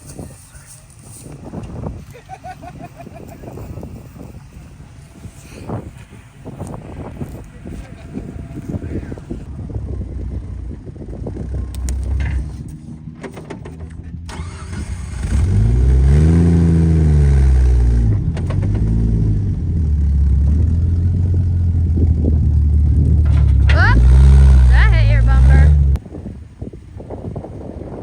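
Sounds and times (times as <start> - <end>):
off-road vehicle engine revving: 1.5 - 26.0.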